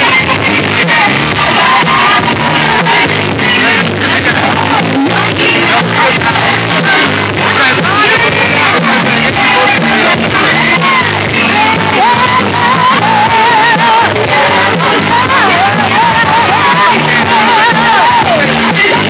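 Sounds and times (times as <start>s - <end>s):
loud music with singer: 0.0s - 19.0s
people shouting and whooping: 0.0s - 19.0s.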